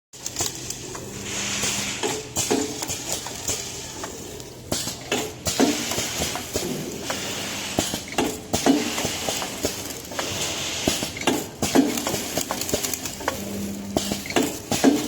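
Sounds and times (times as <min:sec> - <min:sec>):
machine clicking and clattering: 0:00.2 - 0:01.1, 0:02.0 - 0:15.0.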